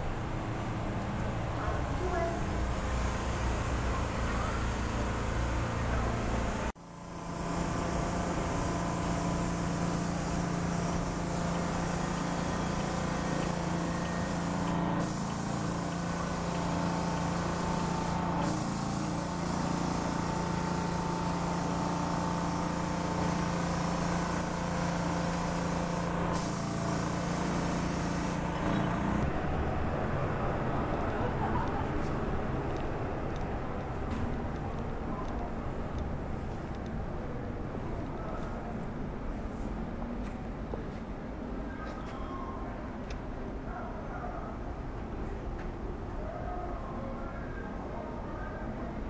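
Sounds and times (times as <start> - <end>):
vehicle engine humming: 0.0 - 41.3
city street traffic: 0.0 - 49.0.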